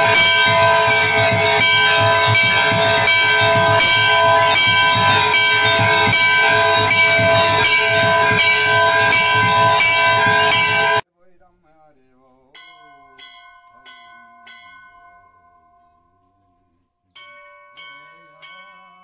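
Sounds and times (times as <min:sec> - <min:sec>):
brass bells clanging: 0:00.0 - 0:11.0, 0:12.6 - 0:16.5, 0:17.2 - 0:19.0.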